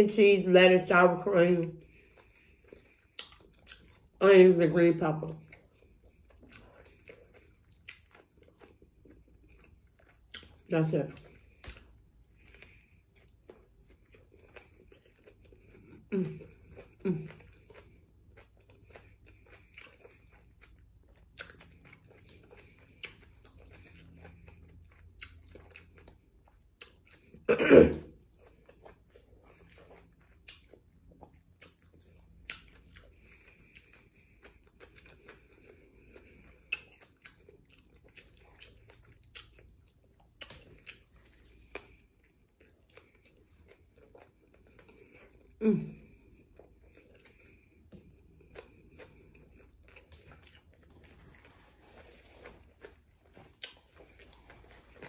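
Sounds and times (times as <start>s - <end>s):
person chewing food: 1.4s - 4.2s, 5.2s - 55.0s.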